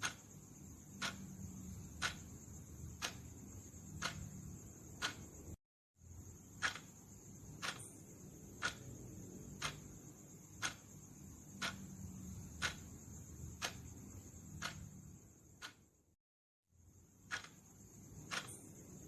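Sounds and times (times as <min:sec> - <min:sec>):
timer ticking: 0:00.0 - 0:05.6, 0:06.4 - 0:15.9, 0:17.2 - 0:19.0
steady low hum: 0:00.0 - 0:19.0.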